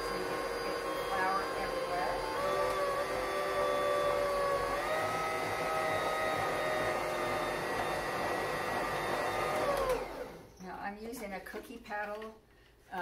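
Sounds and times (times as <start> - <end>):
stand mixer motor whine: 0.0 - 10.5.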